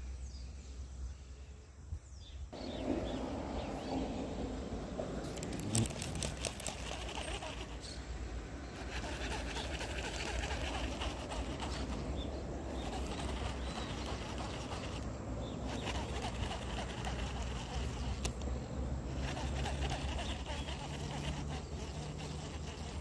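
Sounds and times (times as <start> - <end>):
faint birds calling: 0.0 - 23.0.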